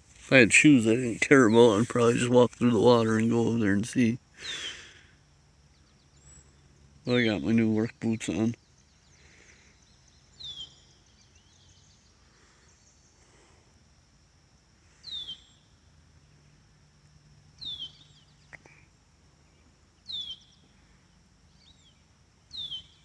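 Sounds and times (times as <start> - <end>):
faint steady high hiss: 0.0 - 23.0.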